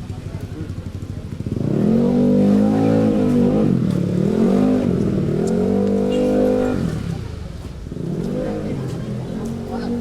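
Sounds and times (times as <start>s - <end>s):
vehicle engine accelerating: 0.2s - 10.0s.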